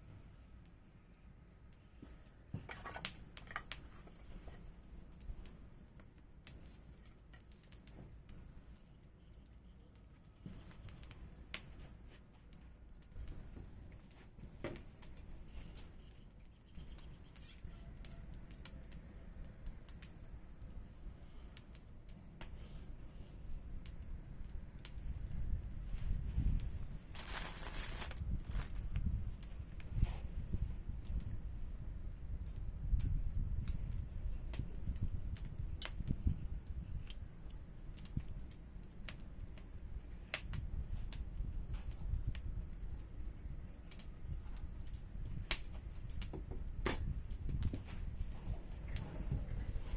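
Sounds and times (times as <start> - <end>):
firewood burning and crackling: 0.0 - 49.9
low steady rumble: 8.0 - 49.9.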